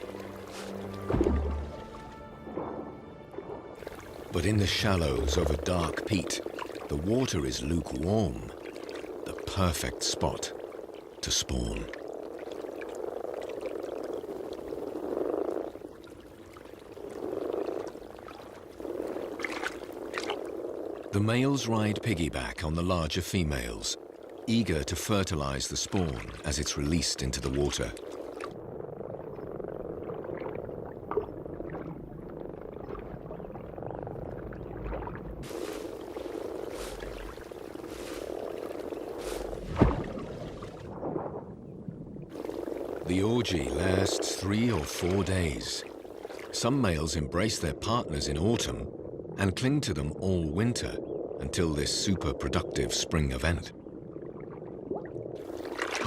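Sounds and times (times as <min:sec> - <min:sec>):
water splashing: 0:00.0 - 0:28.6, 0:29.9 - 0:41.6, 0:42.3 - 0:48.6, 0:53.9 - 0:56.0
frogs croaking: 0:00.0 - 0:56.0.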